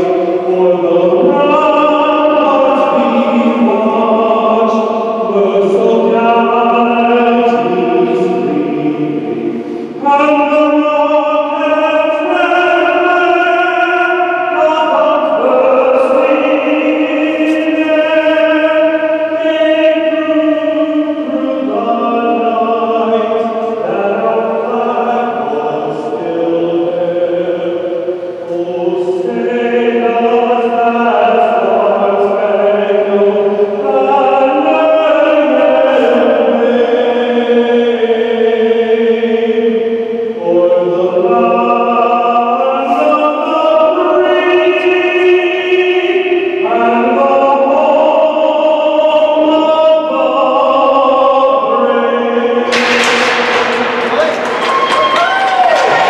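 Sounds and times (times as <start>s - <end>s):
choir singing an anthem: 0.0s - 56.0s.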